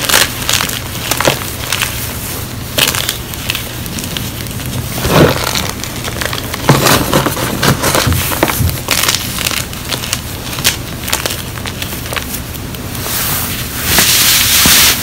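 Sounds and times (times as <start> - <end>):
chalk crunching by hand: 0.0 - 15.0.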